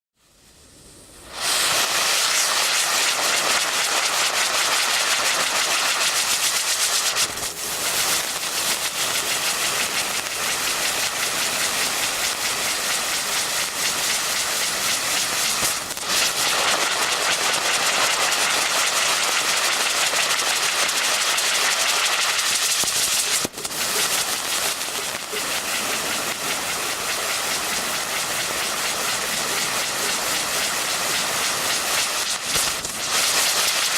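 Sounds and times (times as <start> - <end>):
spinning firework hissing: 0.2 - 33.9.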